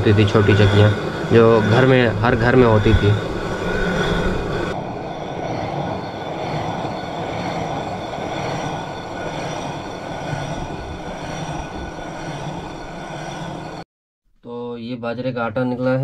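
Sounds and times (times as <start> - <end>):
stone hand mill grinding grain: 0.0 - 13.8.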